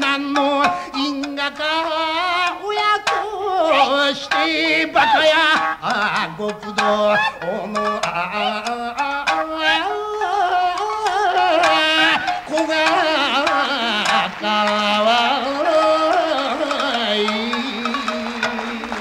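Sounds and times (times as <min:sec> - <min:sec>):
man singing with vibrato: 0:00.0 - 0:19.0
plucked shamisen: 0:00.0 - 0:19.0.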